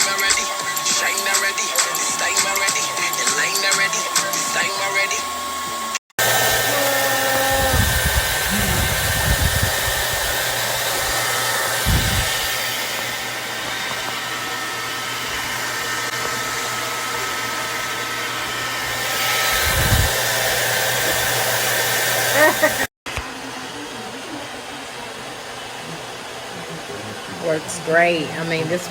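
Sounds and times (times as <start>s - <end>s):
blow dryer running: 0.0s - 28.9s.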